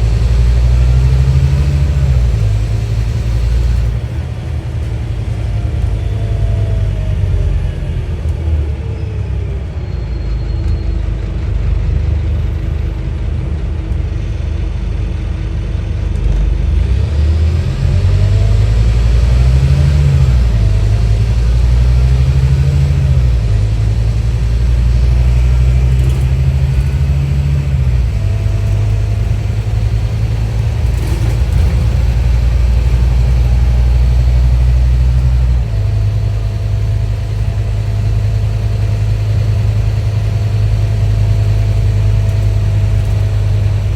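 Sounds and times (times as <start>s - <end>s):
bus diesel engine pulling under load: 0.0s - 43.9s.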